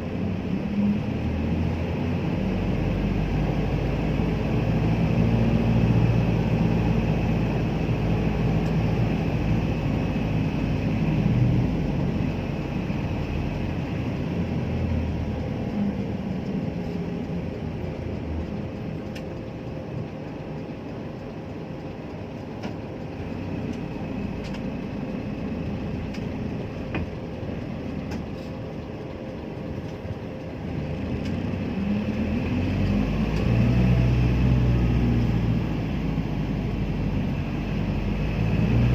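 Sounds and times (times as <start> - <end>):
vehicle rumbling in motion: 0.0 - 38.9.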